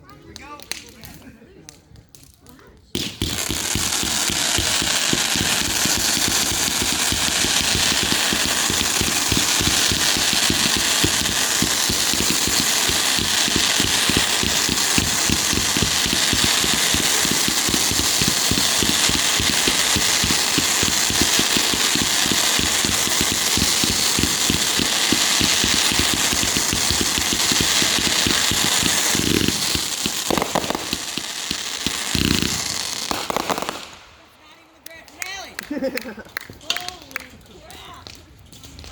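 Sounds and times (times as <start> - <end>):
firework bangs: 3.0 - 34.3
fireworks crackling: 3.0 - 37.2.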